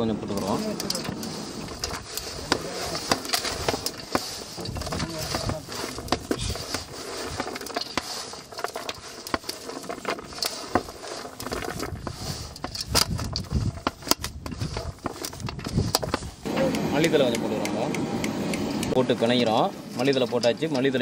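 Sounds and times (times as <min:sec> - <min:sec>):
clicks and scrapes against metal: 0:00.0 - 0:17.8, 0:19.0 - 0:21.0
hands mixing crumbly mixture: 0:00.0 - 0:17.9.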